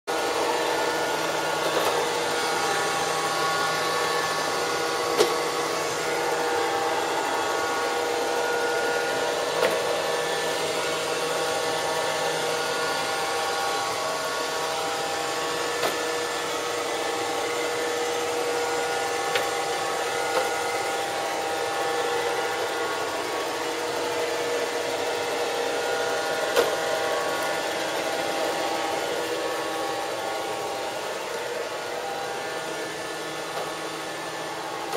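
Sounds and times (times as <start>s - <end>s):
robot vacuum motor hum: 0.1s - 34.9s.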